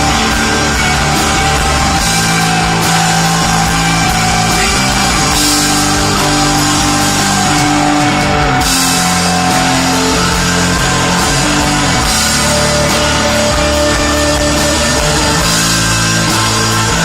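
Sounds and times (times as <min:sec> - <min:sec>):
bass guitar: 0:00.0 - 0:17.0
drum kit with cymbals: 0:00.0 - 0:17.0
electric guitar: 0:00.0 - 0:17.0.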